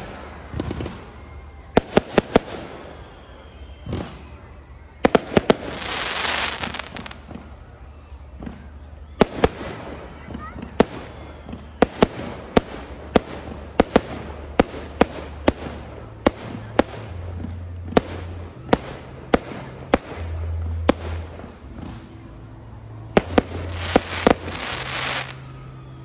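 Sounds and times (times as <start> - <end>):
fireworks bursting: 0.0 - 26.0
fireworks crackling hiss: 0.0 - 26.0.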